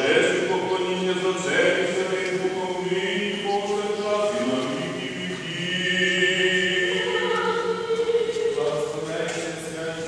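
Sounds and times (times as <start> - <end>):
liturgical chant: 0.0 - 10.0.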